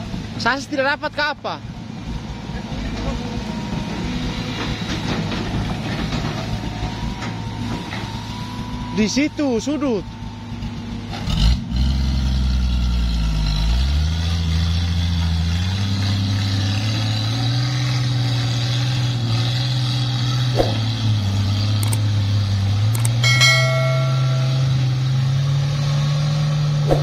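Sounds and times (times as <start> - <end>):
engines straining: 2.6 - 27.0.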